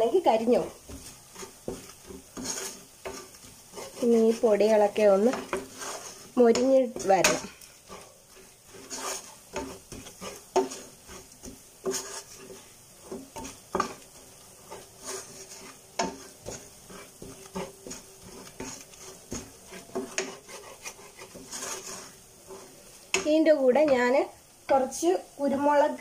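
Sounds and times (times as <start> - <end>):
faint sizzle of frying spices: 0.0 - 26.0
wooden spatula scraping pot: 0.3 - 24.2.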